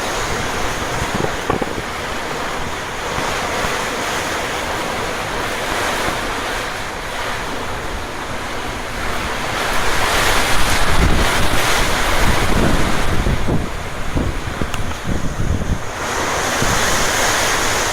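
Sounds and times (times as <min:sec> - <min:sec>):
storm wind blowing: 0:00.0 - 0:17.9
wind buffeting microphone: 0:00.0 - 0:17.9.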